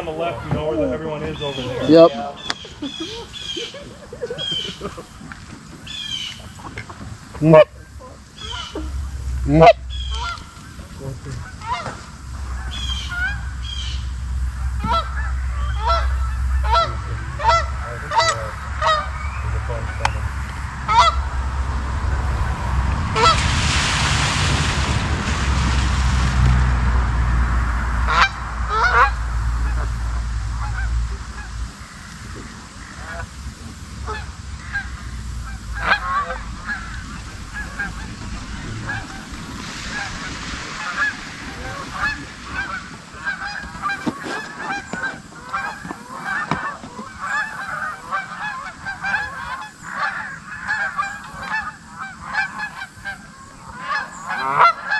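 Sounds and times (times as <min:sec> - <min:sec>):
geese honking: 0:00.0 - 0:54.9
low rumble: 0:01.0 - 0:49.7.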